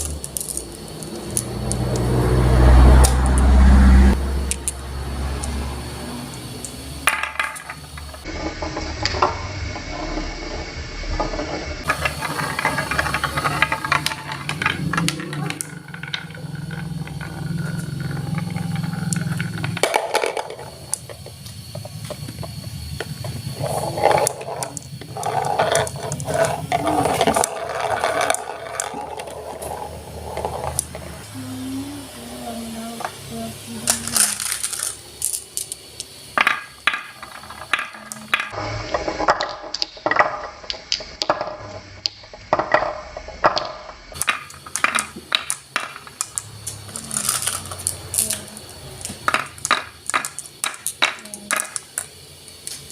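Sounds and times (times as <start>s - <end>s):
marbles clattering on wooden track: 0.0s - 52.9s
marbles rolling rumble: 0.0s - 52.9s.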